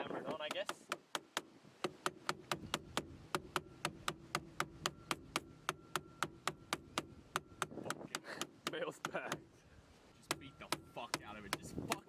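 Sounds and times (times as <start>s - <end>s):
hammer tapping metal: 0.4s - 9.5s, 10.2s - 12.0s.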